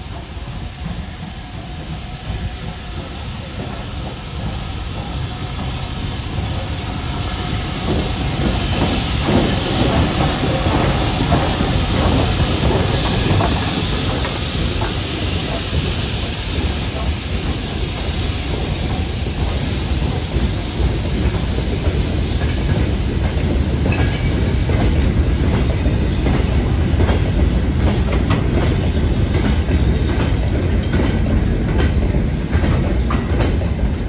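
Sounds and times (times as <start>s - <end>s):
steam hiss: 0.0s - 32.9s
steam locomotive rumble: 0.0s - 34.0s.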